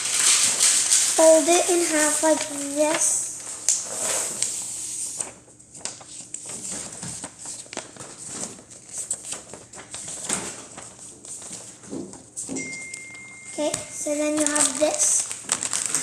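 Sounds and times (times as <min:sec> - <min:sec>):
paper being folded and creased: 0:00.0 - 0:12.3, 0:13.6 - 0:16.0
paper rustling and crackling: 0:00.0 - 0:12.8, 0:13.6 - 0:16.0.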